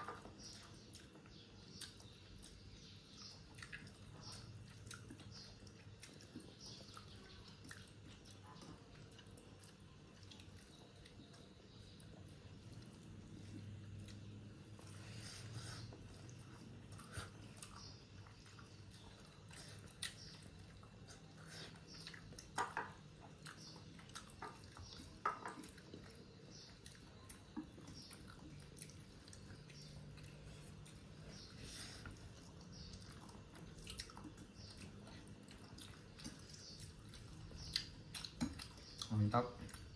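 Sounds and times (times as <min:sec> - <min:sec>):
chewing and mouth smacks: 0:00.0 - 0:39.9.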